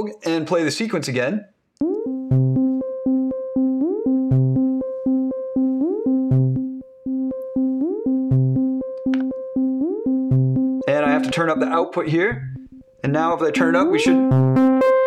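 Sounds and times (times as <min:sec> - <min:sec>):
synthesizer looping sequence: 0:01.8 - 0:15.0.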